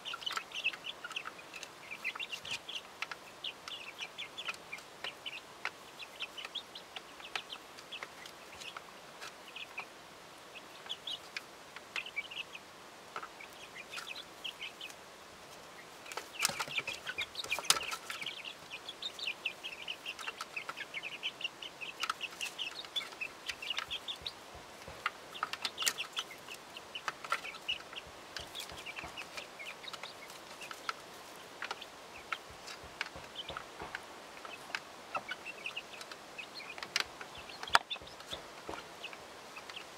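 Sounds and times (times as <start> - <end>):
beaks pecking: 0.0 - 39.9
chicks peeping: 0.0 - 39.9.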